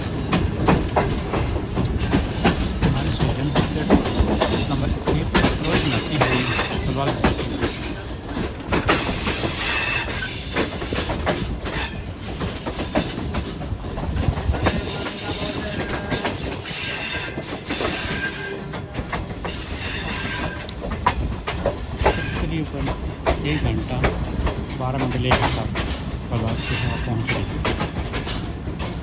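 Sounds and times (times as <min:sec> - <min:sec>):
train wheels clattering: 0:00.0 - 0:29.0
wheels squealing on rails: 0:00.0 - 0:29.0.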